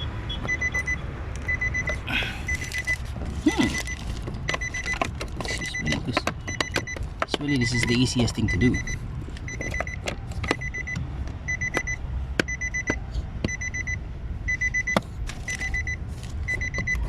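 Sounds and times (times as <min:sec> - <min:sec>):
dashboard warning chime beeping: 0:00.0 - 0:17.0.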